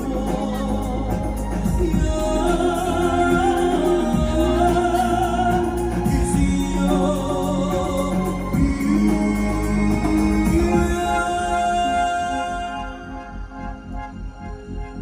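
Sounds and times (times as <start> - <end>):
steady musical accompaniment: 0.0 - 15.0.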